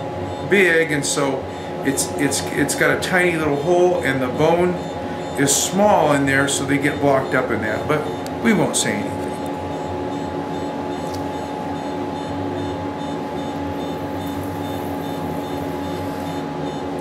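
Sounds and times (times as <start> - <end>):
machine hum with held tones: 0.0 - 17.0.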